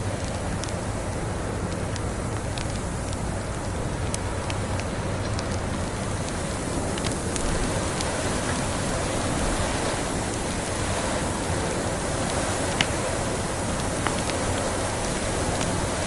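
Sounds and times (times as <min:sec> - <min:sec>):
log fire hissing and crackling: 0:00.0 - 0:16.0.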